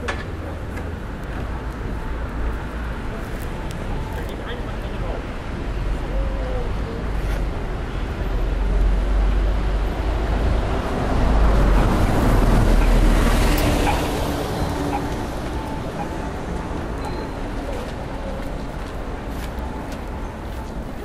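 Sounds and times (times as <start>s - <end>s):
bus driving past: 0.0s - 21.0s.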